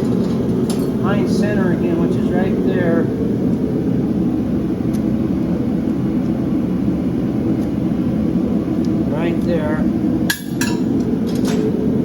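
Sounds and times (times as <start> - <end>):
gas forge roaring: 0.0 - 12.0.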